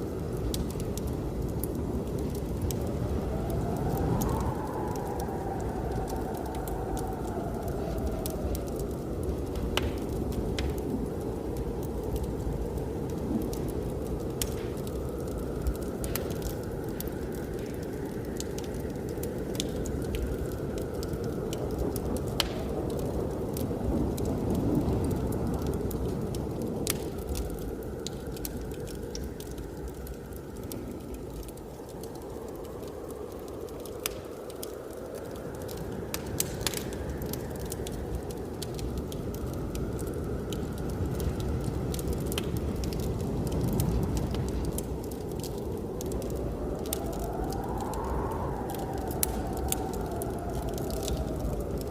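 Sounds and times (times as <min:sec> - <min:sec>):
blizzard wind rumbling: 0:00.0 - 0:51.9
wood fire crackling and popping: 0:00.0 - 0:51.9.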